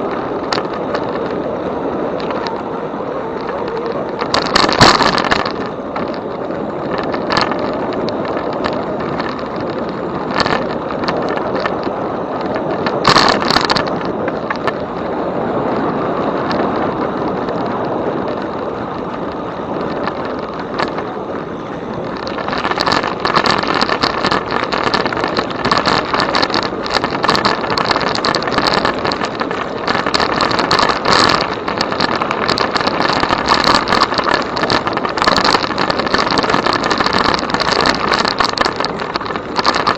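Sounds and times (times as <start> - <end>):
small clicks and rattles: 0.0 - 39.9
thin steady whine: 0.0 - 39.9
tyres rolling: 0.0 - 39.9
wind on microphone: 0.0 - 39.9.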